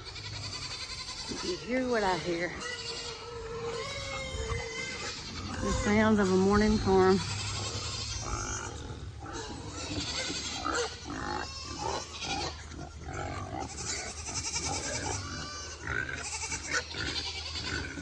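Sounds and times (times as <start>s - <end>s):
farm animals calling: 0.0s - 18.0s
goats bleating: 0.0s - 18.0s.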